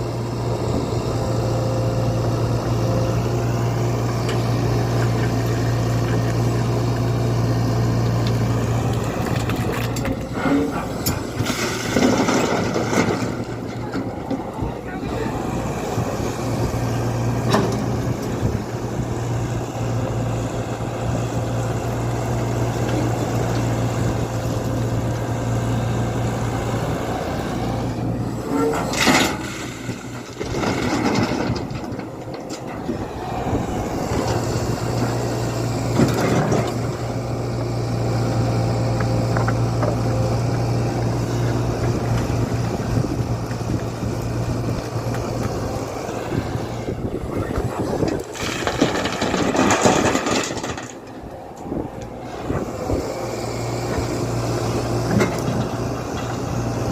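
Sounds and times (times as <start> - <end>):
excavator diesel engine humming: 0.0 - 56.9.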